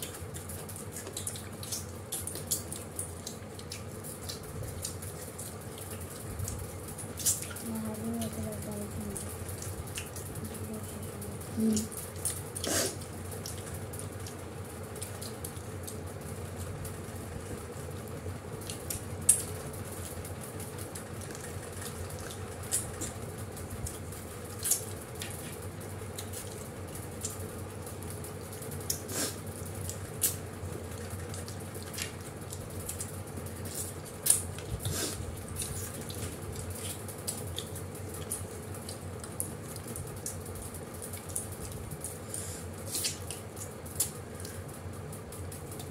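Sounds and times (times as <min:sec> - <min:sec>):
chewing and fingers on plates: 0:00.0 - 0:45.9
room hum: 0:00.0 - 0:45.9.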